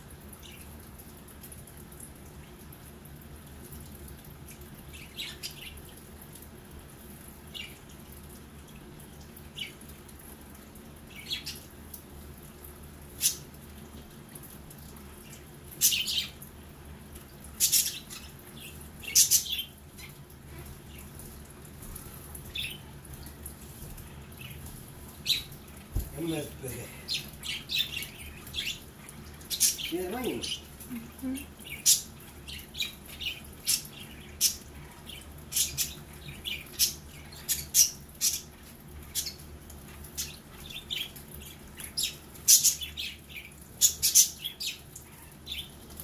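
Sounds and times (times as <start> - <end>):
water fountain humming: 0.0 - 46.0
water trickling: 0.0 - 46.0.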